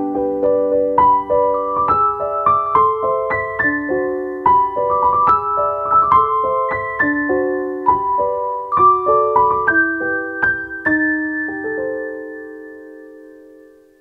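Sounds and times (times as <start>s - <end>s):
keyboard music: 0.0s - 14.0s.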